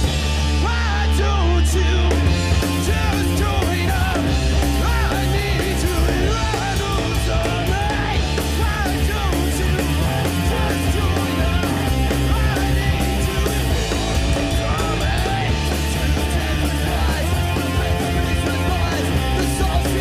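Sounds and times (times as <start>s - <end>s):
punk rock band playing live: 0.0s - 20.0s
person singing: 0.6s - 20.0s.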